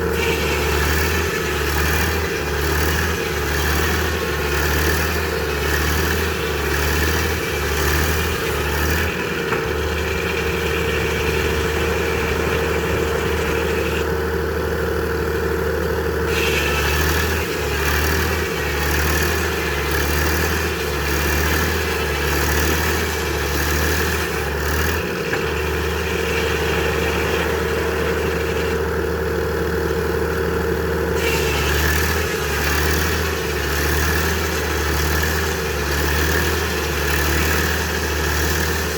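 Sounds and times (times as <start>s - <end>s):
sawmill mechanical drone: 0.0s - 38.9s.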